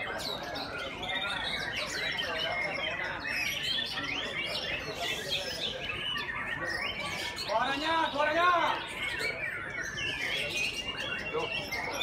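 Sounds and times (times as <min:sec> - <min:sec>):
chorus of birds singing: 0:00.0 - 0:12.0.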